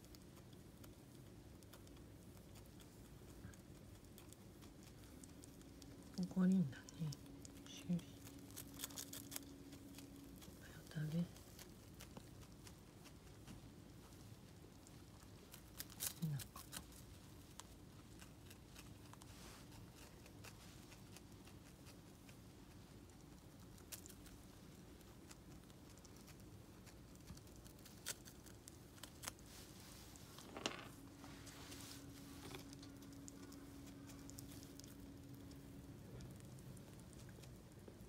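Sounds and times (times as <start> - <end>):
squirrel chewing greens: 0.0 - 38.0.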